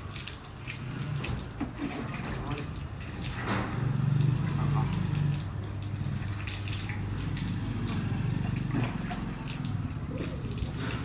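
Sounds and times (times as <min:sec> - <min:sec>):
water running and splashing: 0:00.0 - 0:11.0.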